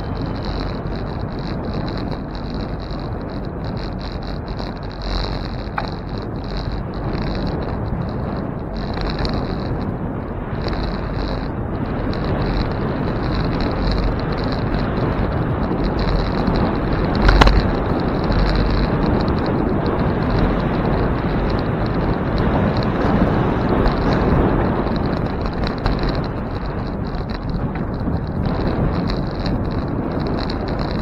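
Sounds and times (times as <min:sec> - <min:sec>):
bicycle tyres on pavement: 0:00.0 - 0:31.0.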